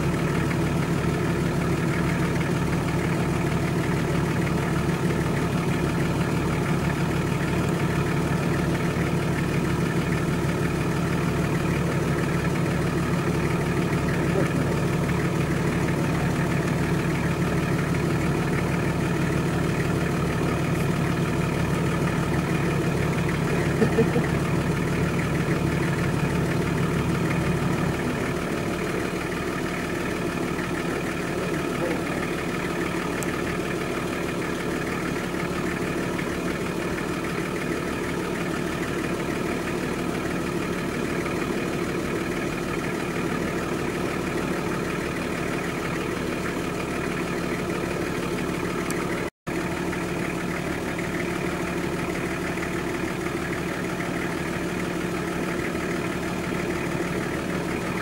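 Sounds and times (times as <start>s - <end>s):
engine running at low revs: 0.0s - 58.0s.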